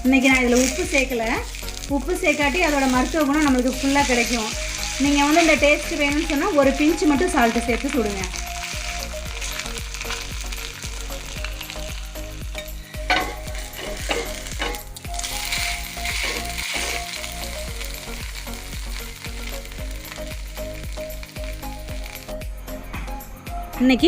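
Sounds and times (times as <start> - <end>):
batter sizzling on a hot griddle: 0.0 - 22.4.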